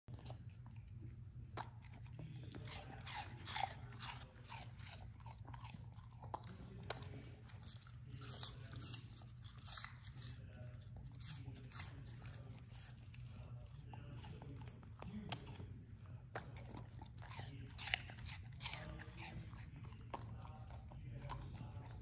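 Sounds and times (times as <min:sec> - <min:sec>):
dog crunching apple: 0:00.1 - 0:22.0.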